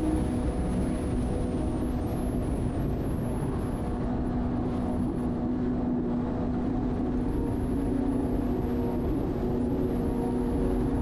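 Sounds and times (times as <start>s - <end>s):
constant rushing noise: 0.0s - 11.0s.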